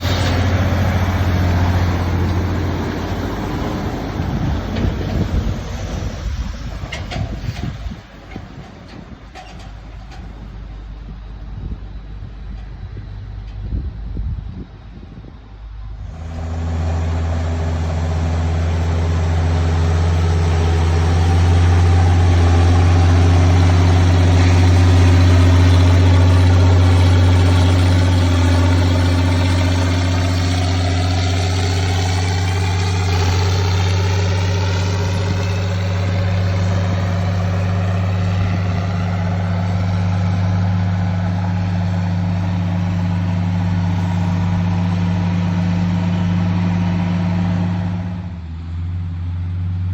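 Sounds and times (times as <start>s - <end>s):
vehicle engine running: 0.0s - 49.9s.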